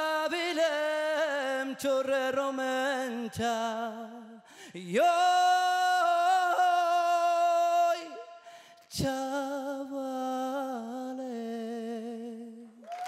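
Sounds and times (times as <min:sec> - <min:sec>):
man singing unaccompanied: 0:00.0 - 0:12.7.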